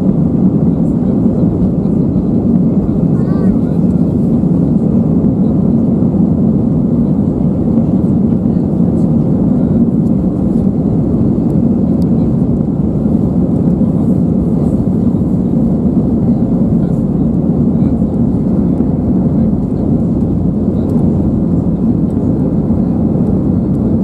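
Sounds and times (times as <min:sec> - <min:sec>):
aircraft cabin rumble: 0:00.0 - 0:24.0.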